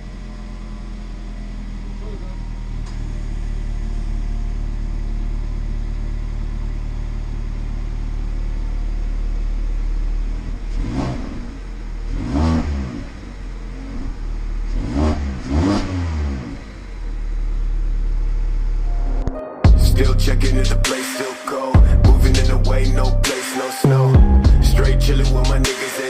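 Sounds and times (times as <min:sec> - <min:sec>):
car engine idling and revving: 0:00.0 - 0:20.9, 0:21.8 - 0:23.3, 0:23.9 - 0:25.7.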